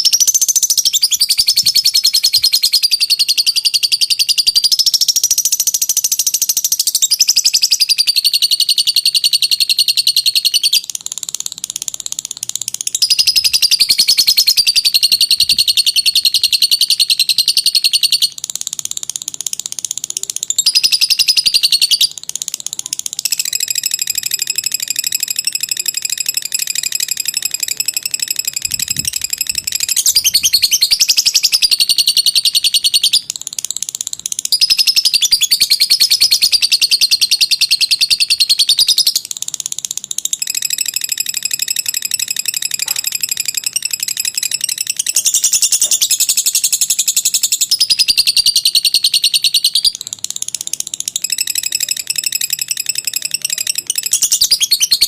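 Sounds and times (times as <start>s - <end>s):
lovebird high-pitched chattering trill: 0.0s - 55.0s.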